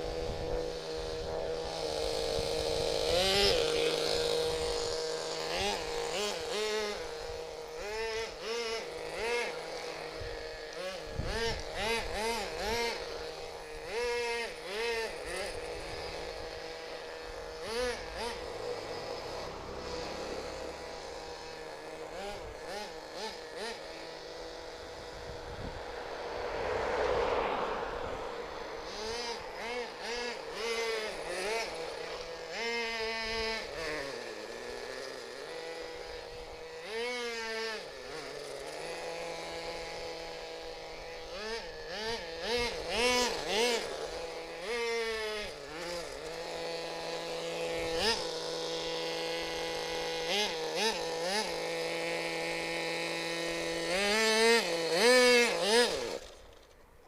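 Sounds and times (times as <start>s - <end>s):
rc truck engine revving: 0.0s - 57.0s.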